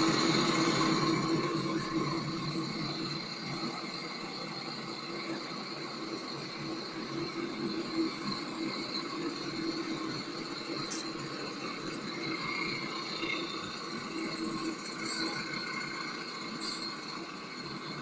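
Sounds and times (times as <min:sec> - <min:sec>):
bus engine hum and whine: 0:00.0 - 0:18.0.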